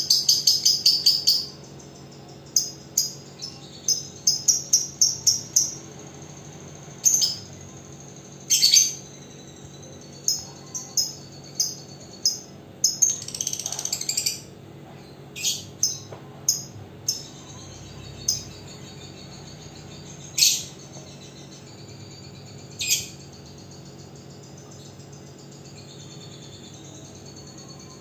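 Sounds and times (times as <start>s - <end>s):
bird chattering trill: 0.0s - 28.0s
bird high chirps: 0.0s - 28.0s.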